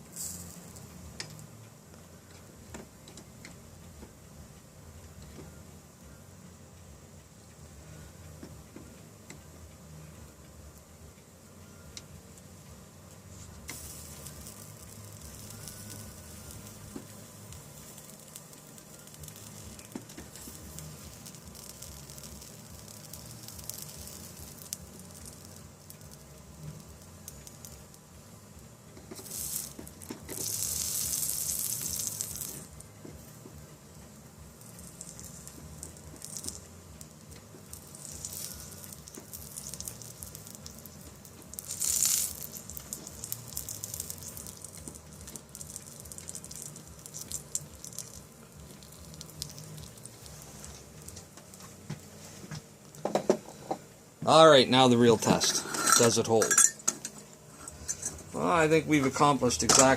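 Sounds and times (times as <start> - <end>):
soldering iron sizzling: 0.0 - 59.9.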